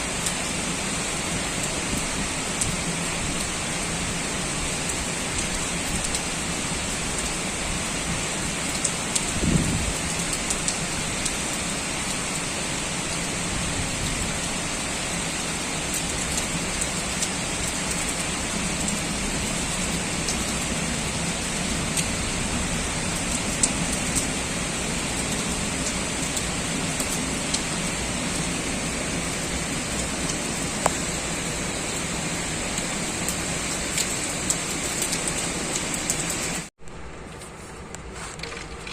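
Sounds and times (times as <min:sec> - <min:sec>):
heavy rain hissing: 0:00.0 - 0:36.7.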